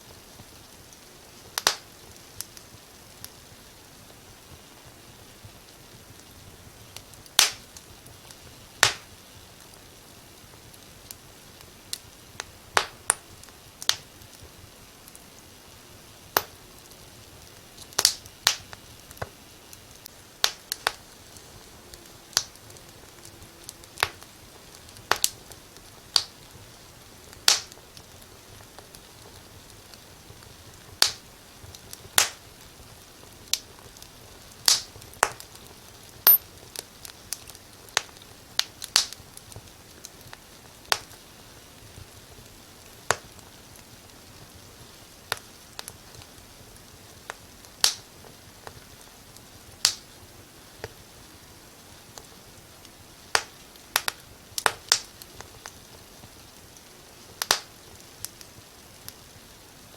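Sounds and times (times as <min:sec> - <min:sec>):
faint steady hiss: 0:00.0 - 0:59.9
wood fire crackling: 0:00.0 - 0:59.9.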